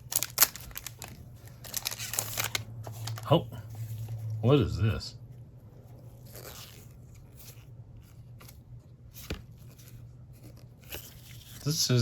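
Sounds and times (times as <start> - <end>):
rustling of cards being handled: 0.0 - 4.4, 5.3 - 12.0.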